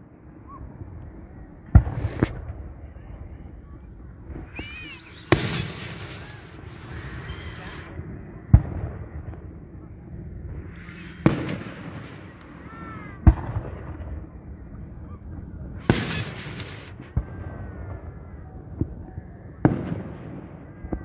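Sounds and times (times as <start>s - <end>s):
fireworks booming: 0.5s - 21.0s
fireworks crackling: 0.8s - 20.5s.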